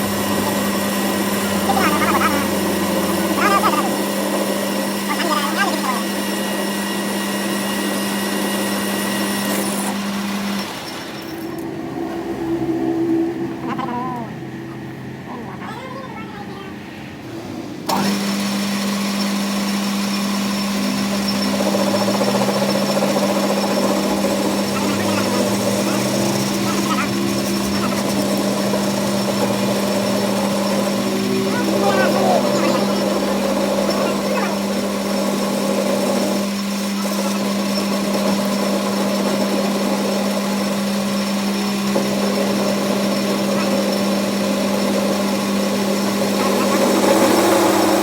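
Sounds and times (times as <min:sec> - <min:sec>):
workshop machine humming: 0:00.0 - 0:48.0.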